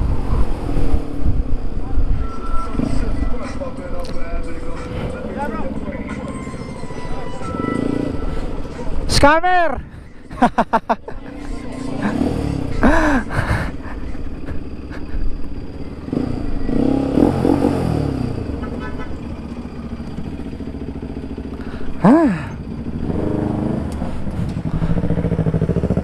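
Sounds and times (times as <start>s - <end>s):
motorcycle engine throttle blips: 0.3s - 9.1s, 13.7s - 26.0s.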